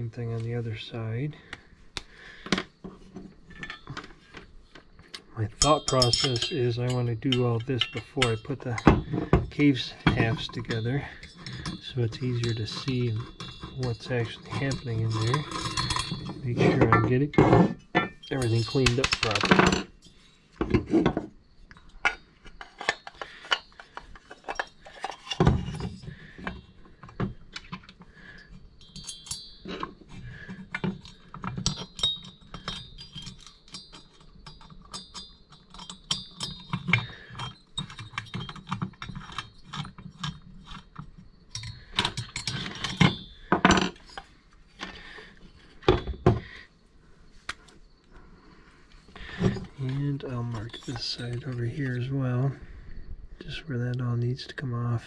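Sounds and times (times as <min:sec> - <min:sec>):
metal parts clicking and knocking: 0:03.5 - 0:46.7, 0:49.0 - 0:52.4.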